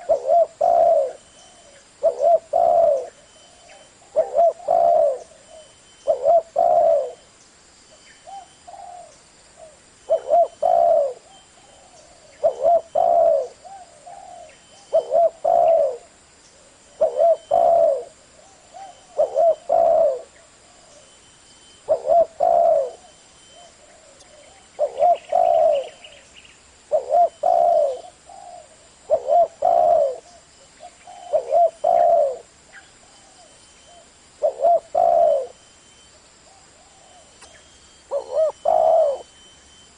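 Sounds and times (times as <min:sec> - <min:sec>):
dove cooing: 0:00.0 - 0:07.2, 0:08.2 - 0:26.2, 0:26.8 - 0:35.8, 0:36.4 - 0:39.9.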